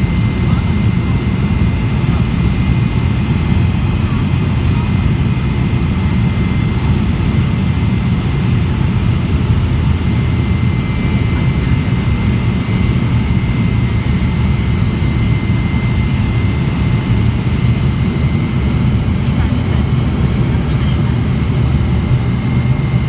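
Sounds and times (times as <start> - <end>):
high engine whine: 0.0 - 23.0
turboprop engine rumble: 0.0 - 23.0.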